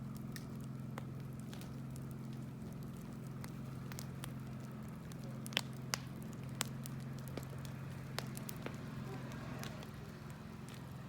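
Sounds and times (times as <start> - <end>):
bonfire crackling: 0.0 - 11.0
sharp pops from fire: 0.0 - 11.0.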